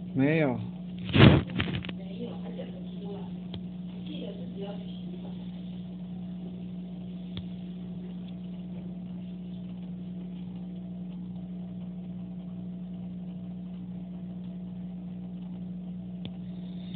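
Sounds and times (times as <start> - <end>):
aquarium pump hum: 0.0 - 16.9.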